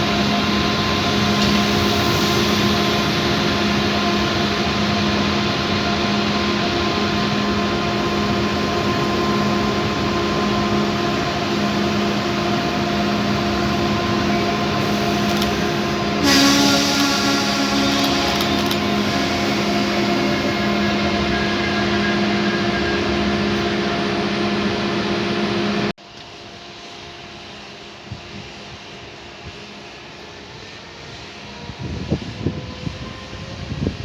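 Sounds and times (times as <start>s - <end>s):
train machinery hum: 0.0s - 34.0s.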